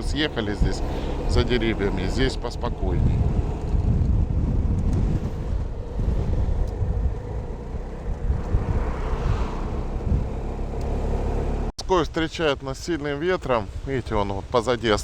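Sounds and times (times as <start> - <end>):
wind rumble on microphone: 0.0 - 12.2
road noise: 0.0 - 15.0.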